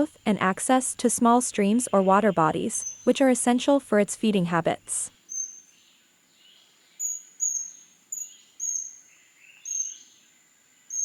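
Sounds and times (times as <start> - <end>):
small bird calling: 0.0 - 5.8, 7.0 - 10.1.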